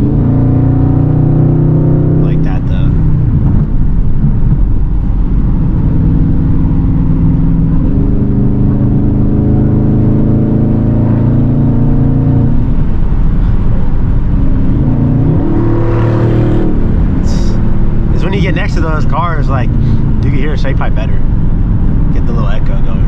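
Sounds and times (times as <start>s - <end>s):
car exhaust droning: 0.0s - 23.0s.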